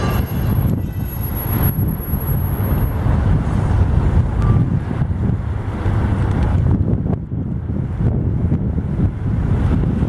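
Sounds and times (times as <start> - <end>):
jet engines low rumble: 0.0 - 10.0.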